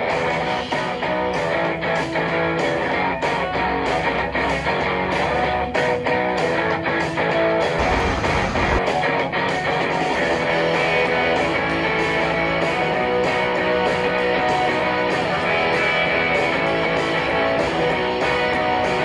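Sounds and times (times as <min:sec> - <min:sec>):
background guitar music: 0:00.0 - 0:19.0.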